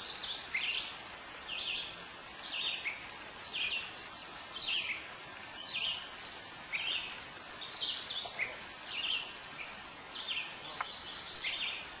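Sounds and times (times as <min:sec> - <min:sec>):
songbirds singing: 0:00.0 - 0:12.0
steady background hiss: 0:00.0 - 0:12.0.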